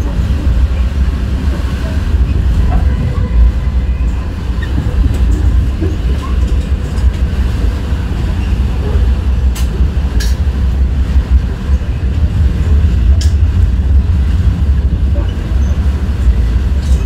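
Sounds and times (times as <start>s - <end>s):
train car rumbling on rails: 0.0s - 17.0s.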